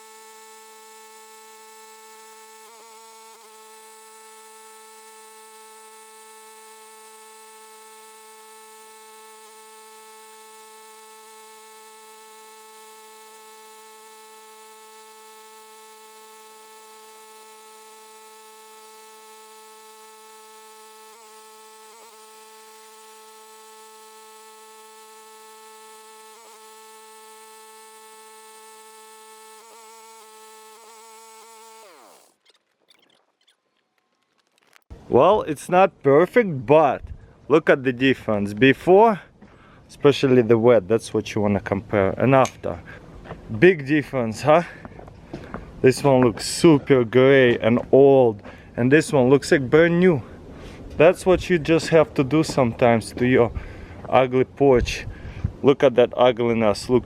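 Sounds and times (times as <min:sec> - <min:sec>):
steady machine hum: 0:00.0 - 0:32.4, 0:41.9 - 0:57.0.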